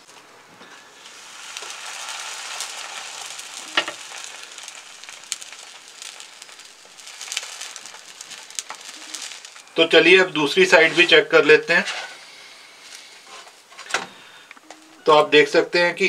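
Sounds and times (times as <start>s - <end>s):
sandwich sizzling on grill pan: 0.6s - 14.4s.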